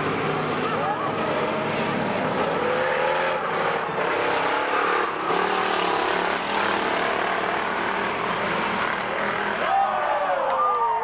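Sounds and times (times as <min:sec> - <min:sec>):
race car engines accelerating: 0:00.0 - 0:11.0.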